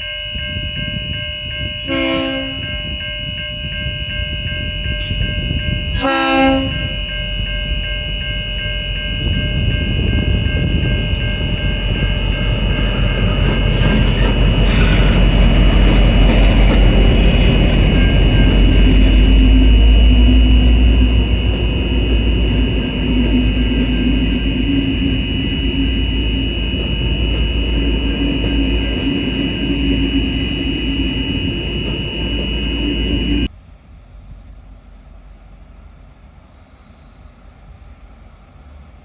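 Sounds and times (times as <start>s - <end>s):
diesel locomotive passing: 0.0s - 39.0s
locomotive high whine: 0.0s - 39.0s.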